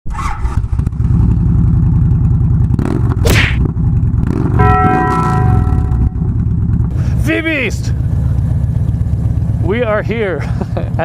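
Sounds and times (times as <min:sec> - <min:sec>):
motorcycle engine running: 0:00.6 - 0:11.0.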